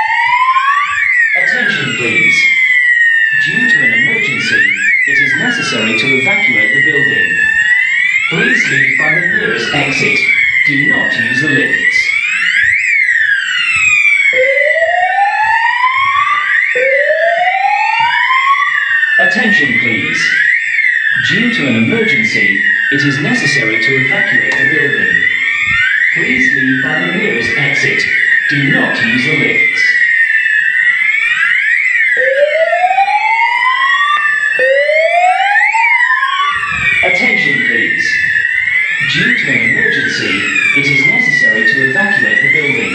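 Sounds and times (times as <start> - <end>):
fire alarm siren tone: 0.0 - 42.9.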